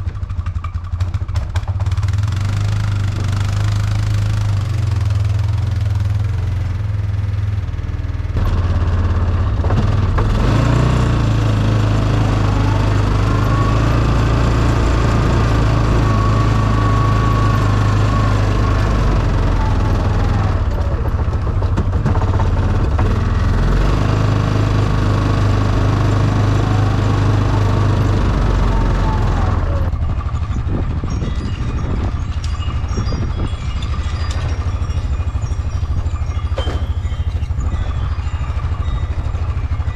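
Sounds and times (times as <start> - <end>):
engine clatter: 0.0 - 39.9
vehicle engine revving: 1.0 - 33.0.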